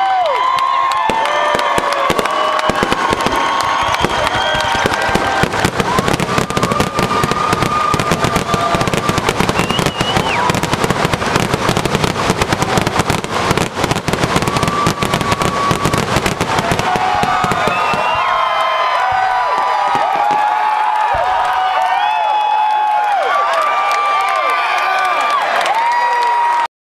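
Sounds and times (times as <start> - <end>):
crackling fireworks: 0.0 - 23.1
fireworks bursts and bangs: 0.1 - 22.1.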